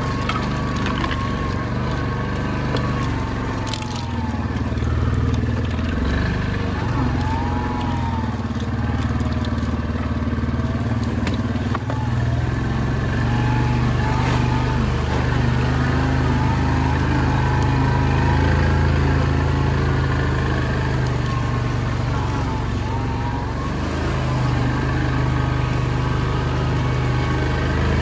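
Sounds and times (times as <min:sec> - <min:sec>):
quad bike engine running: 0:00.0 - 0:28.0.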